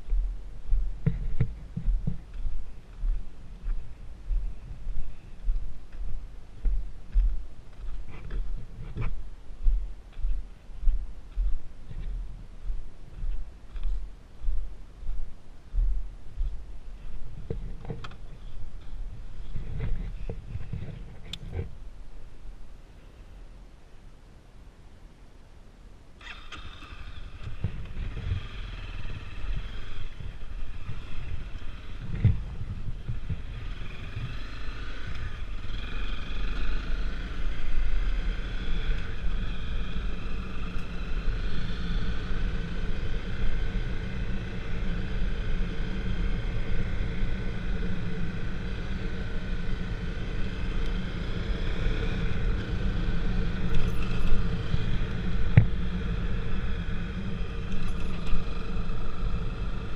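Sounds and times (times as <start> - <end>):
faint droning tone: 0.0 - 26.2, 26.8 - 59.9
road and wind rumble: 0.0 - 59.9.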